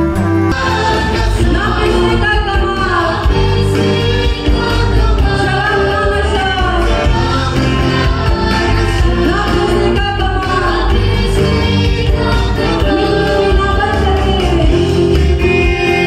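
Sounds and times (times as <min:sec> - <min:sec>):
musical accompaniment with bass: 0:00.0 - 0:16.0
group of people singing: 0:00.4 - 0:16.0.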